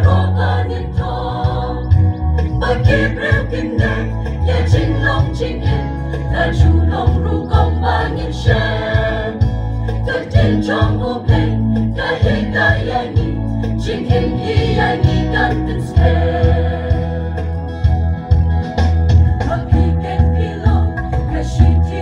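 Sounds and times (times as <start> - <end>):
church choir singing a hymn: 0.0 - 17.5, 19.5 - 22.0
low bass accompaniment: 0.0 - 22.0.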